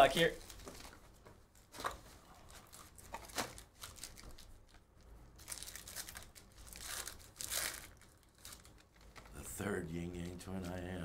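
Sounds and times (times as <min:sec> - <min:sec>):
wrapper crinkling and tearing: 0:00.0 - 0:01.0, 0:01.6 - 0:09.4.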